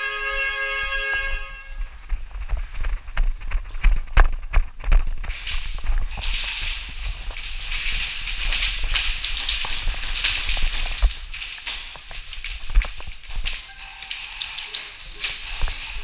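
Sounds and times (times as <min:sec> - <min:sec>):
running footsteps: 0:01.2 - 0:16.0.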